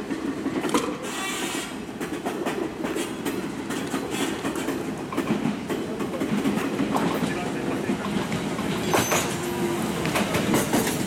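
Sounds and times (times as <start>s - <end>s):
train wheels clacking on rails: 0.0s - 11.0s.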